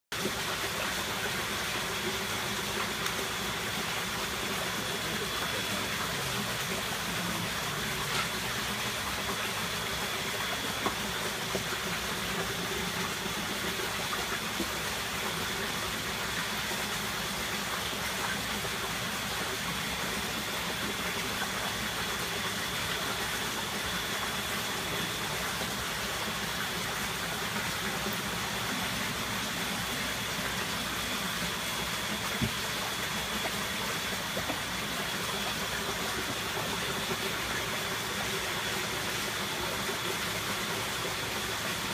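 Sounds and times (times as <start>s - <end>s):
running water: 0.1s - 41.9s.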